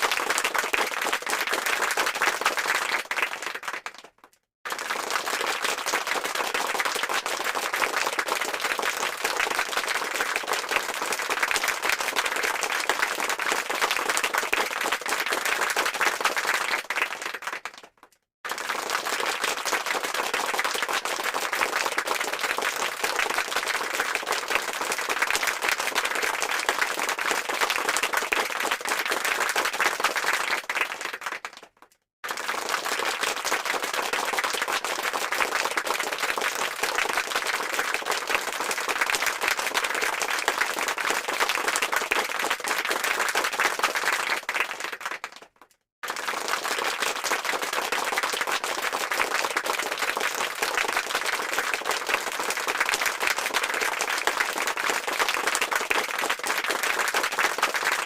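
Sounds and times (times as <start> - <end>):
crowd applause: 0.0 - 4.1, 4.7 - 17.9, 18.5 - 58.0.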